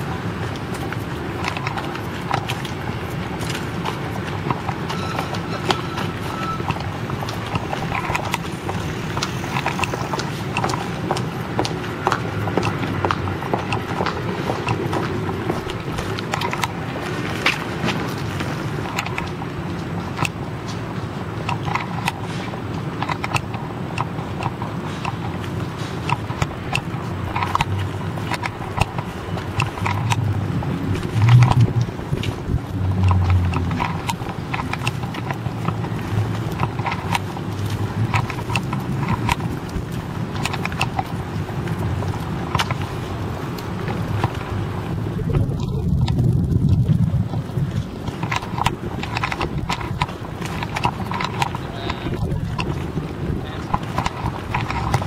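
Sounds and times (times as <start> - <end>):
footsteps on paving stones: 0.0 - 55.0
low traffic rumble: 0.0 - 55.0.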